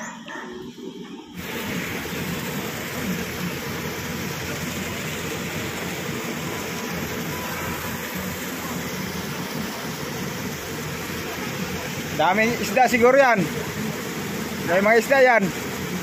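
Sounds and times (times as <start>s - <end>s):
water gushing into pit: 1.3s - 16.0s.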